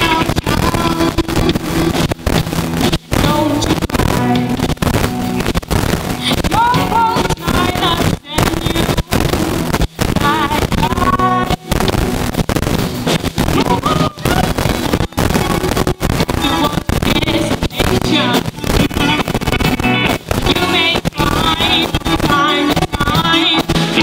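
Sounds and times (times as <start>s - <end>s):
woman singing lead: 0.0s - 2.0s, 3.1s - 4.8s, 6.1s - 12.0s, 13.5s - 24.0s
drum kit: 0.0s - 24.0s
electric guitars: 0.0s - 24.0s.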